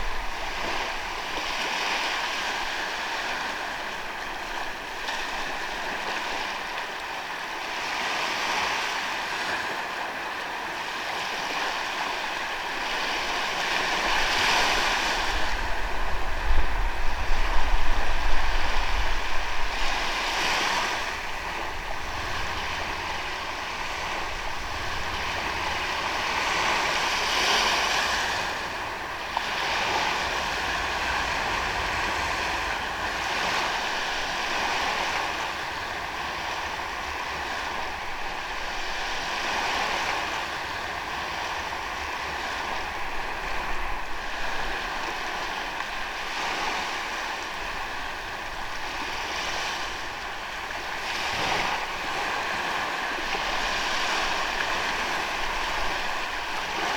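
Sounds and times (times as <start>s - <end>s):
ocean waves breaking on beach: 0.0s - 56.9s.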